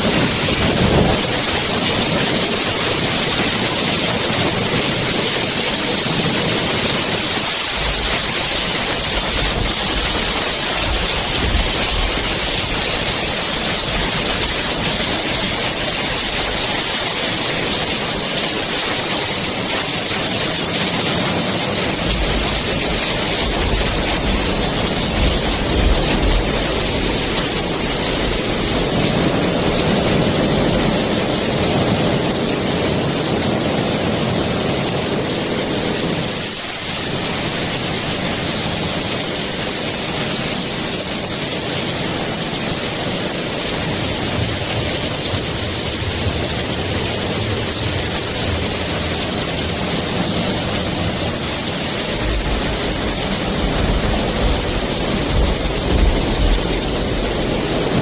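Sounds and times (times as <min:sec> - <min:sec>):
heavy rain hissing: 0:00.0 - 0:58.0
thunder rumbling: 0:00.0 - 0:58.0.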